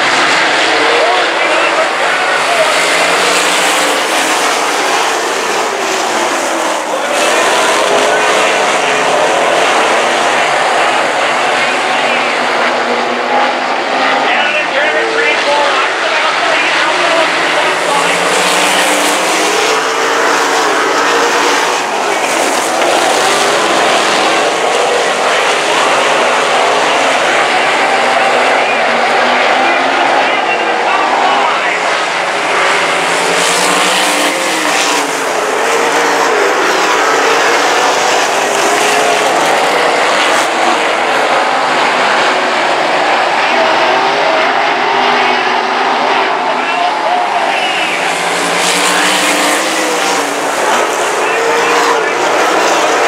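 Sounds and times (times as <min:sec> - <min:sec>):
race car engines roaring: 0:00.0 - 0:53.0.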